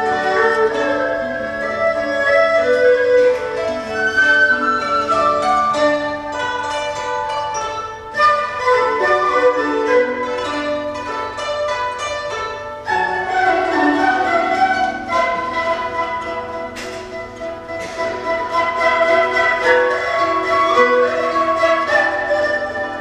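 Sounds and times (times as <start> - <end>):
bamboo flute: 0.0 - 23.0
plucked string instruments: 0.0 - 23.0.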